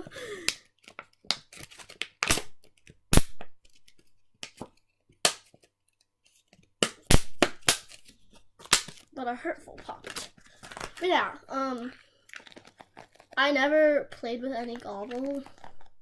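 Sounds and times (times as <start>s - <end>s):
plastic packaging popping: 0.0s - 11.3s, 12.1s - 13.4s, 14.1s - 16.0s.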